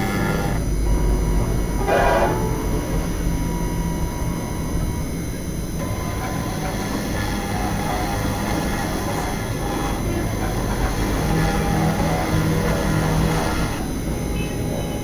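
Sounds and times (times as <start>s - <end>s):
metal cutting noise: 0.0s - 15.0s
milling spindle humming: 0.0s - 15.0s.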